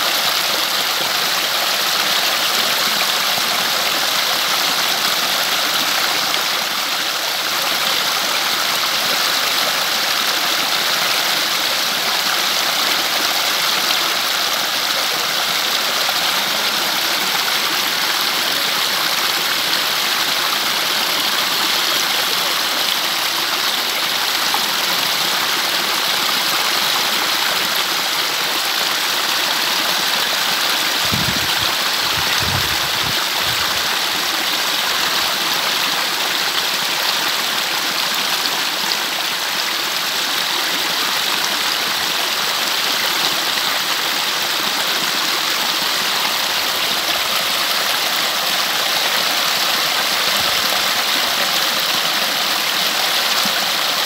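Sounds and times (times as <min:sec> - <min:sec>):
stream splashing over stones: 0:00.0 - 0:54.0.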